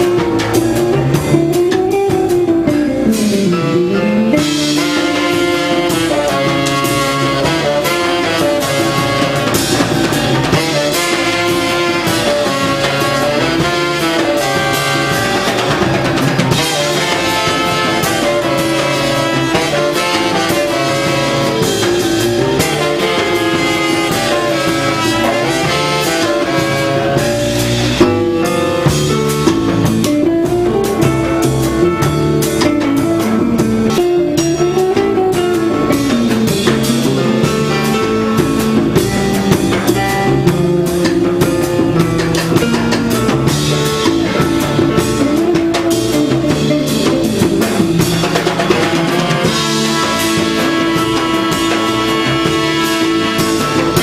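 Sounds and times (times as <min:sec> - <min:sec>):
drum kit: 0:00.0 - 0:54.0
horn melody: 0:00.0 - 0:54.0
jazz band playing: 0:00.0 - 0:54.0.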